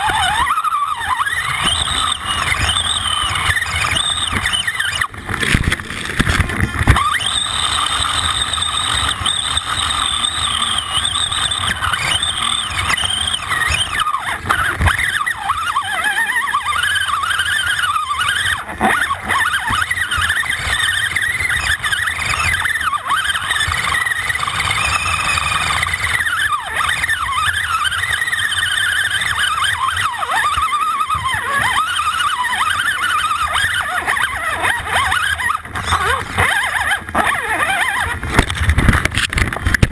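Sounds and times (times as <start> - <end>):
electric motor and gear whine: 0.0 - 39.9.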